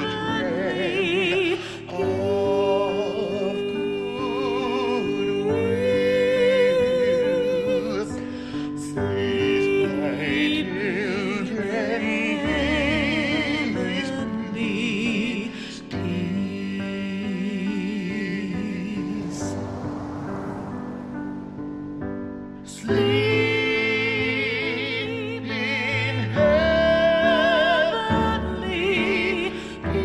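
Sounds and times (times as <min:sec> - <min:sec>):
person singing with vibrato: 0:00.0 - 0:19.8, 0:22.6 - 0:30.0.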